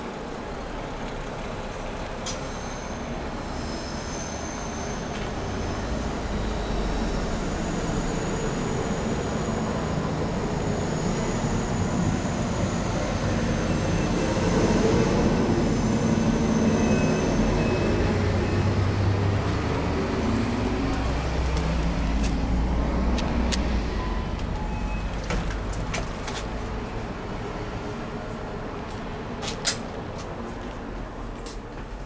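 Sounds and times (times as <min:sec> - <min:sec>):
subway train rumble and hiss: 0:00.0 - 0:32.0.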